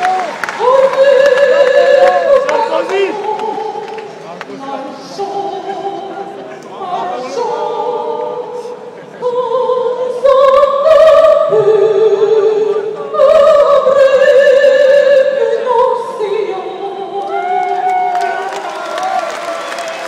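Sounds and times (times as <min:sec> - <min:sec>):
operatic singing with vibrato: 0:00.0 - 0:19.7.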